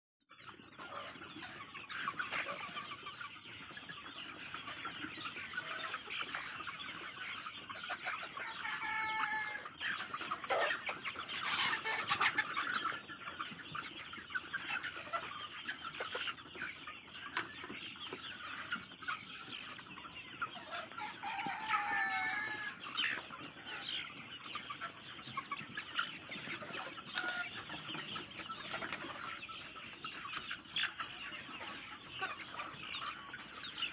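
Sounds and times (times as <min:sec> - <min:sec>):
drawn-out chicken calls: 0:00.3 - 0:33.9
flock of chickens clucking: 0:00.3 - 0:33.9.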